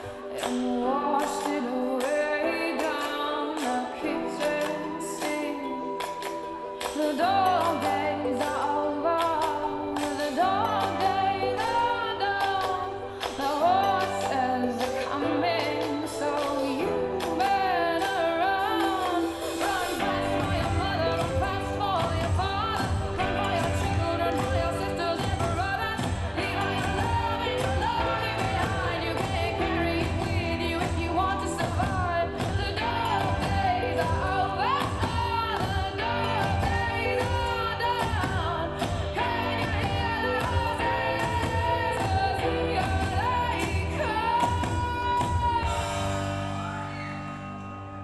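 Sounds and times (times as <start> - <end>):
song with singing over a beat: 0.0 - 48.0.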